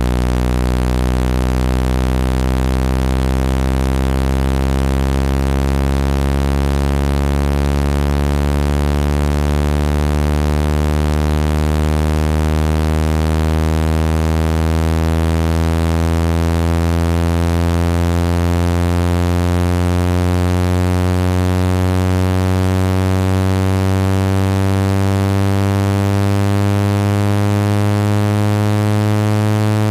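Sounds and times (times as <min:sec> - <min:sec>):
droning motor hum: 0:00.0 - 0:29.9.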